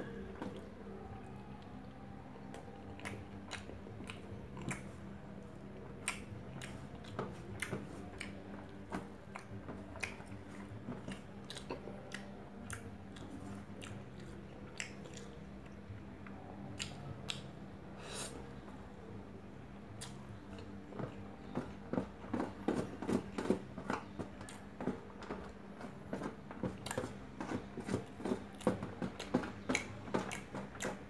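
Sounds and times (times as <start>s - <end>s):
person chewing food: 0.0s - 5.2s, 5.8s - 18.4s, 20.0s - 31.0s.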